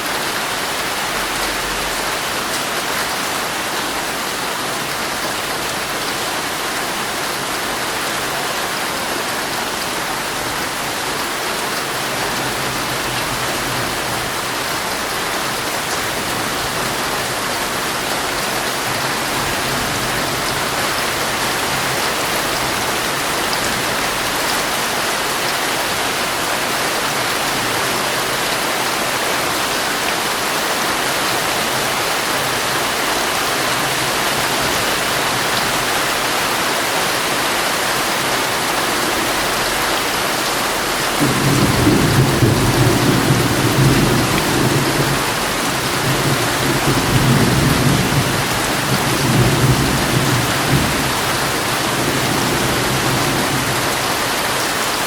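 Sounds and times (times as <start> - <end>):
heavy rain on a tent: 0.0 - 55.0.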